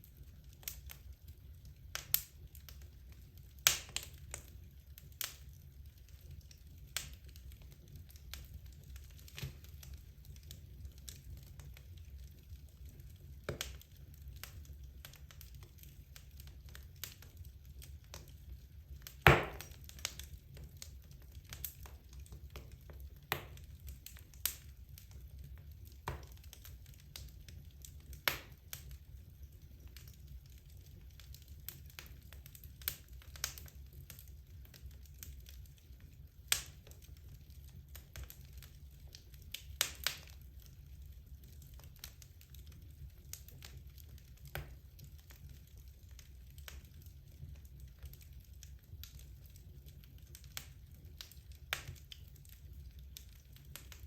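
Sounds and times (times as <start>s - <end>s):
logs crackling in fireplace: 0.0s - 54.0s.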